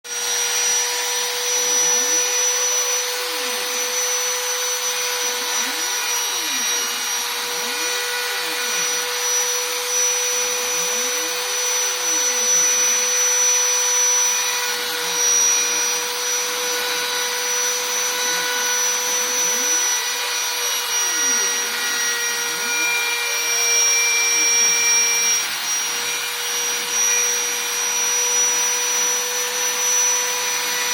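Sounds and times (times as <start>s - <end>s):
spindle motor whine: 0.1s - 30.9s
stepper motors rising and falling: 0.1s - 30.9s.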